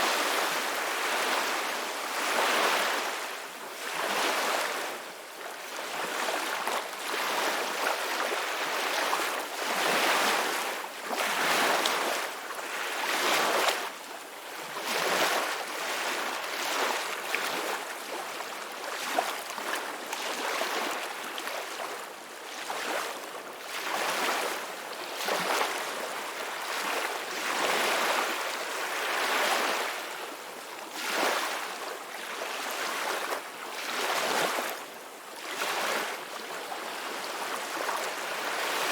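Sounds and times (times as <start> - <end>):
ocean waves breaking on shore: 0.0 - 13.9, 14.8 - 38.9.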